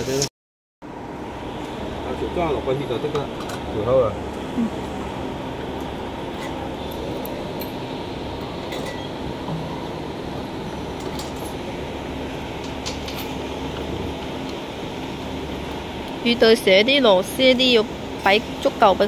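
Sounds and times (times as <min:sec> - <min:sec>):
machinery hum and hiss: 0:00.0 - 0:00.3, 0:00.9 - 0:19.0.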